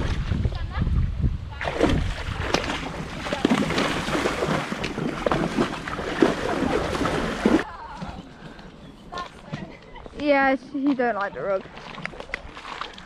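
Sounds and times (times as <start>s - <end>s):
ponies splashing through water: 1.6s - 13.0s.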